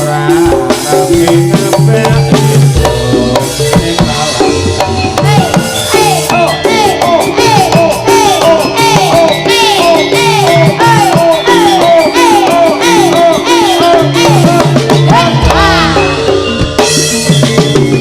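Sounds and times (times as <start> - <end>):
drums and gamelan percussion: 0.0 - 18.0.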